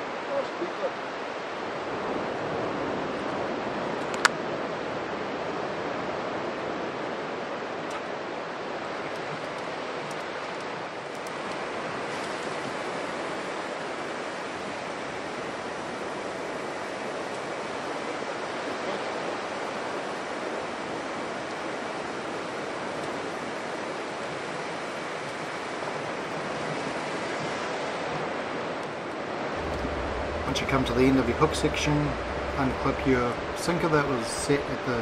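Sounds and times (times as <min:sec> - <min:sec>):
surf breaking on beach: 0:00.0 - 0:35.0.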